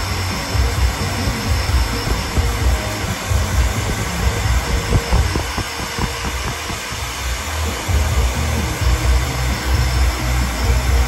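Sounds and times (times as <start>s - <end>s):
hair dryer blowing: 0.0s - 11.0s
uneven low rumble: 0.0s - 11.0s.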